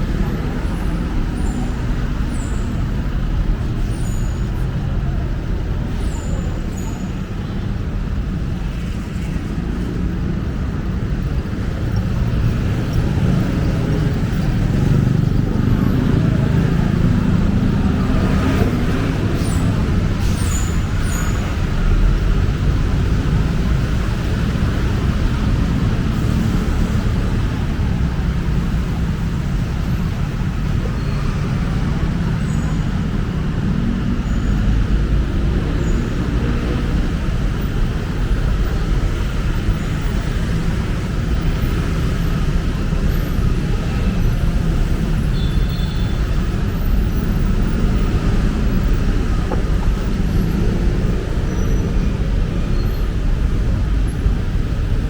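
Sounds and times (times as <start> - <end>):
heavy vehicles rumbling past: 0.0 - 55.0
road traffic: 0.0 - 55.0.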